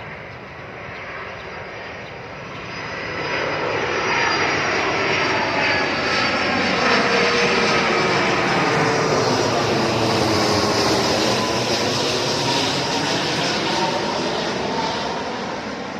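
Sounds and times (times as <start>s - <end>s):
airplane engine rushing: 0.0s - 15.9s.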